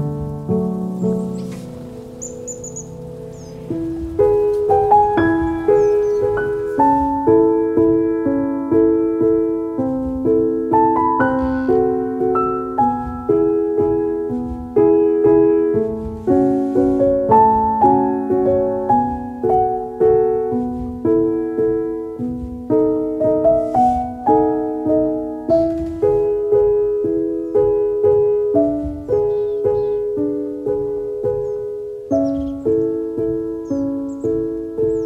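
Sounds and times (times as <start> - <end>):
soft piano music: 0.0 - 35.0.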